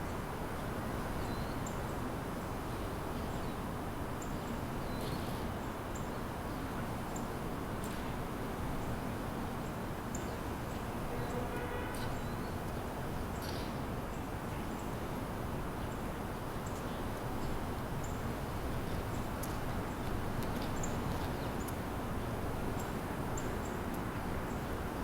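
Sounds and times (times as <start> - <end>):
low rumble of city traffic: 0.0 - 25.0.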